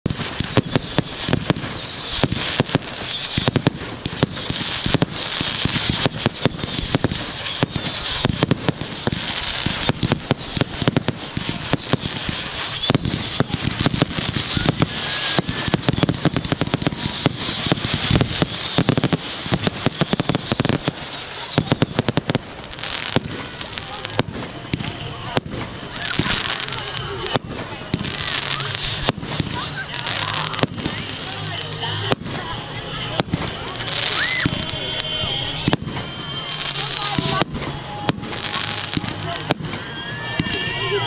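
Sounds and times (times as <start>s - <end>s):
firework bangs and crackling: 0.0s - 41.0s
falling firework whistles: 0.1s - 32.5s, 33.2s - 41.0s.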